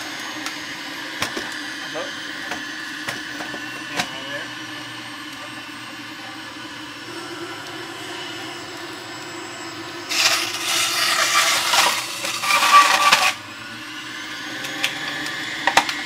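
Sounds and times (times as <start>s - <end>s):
juicer grinding vegetables: 0.0s - 16.0s
juicer motor whine: 0.0s - 16.0s.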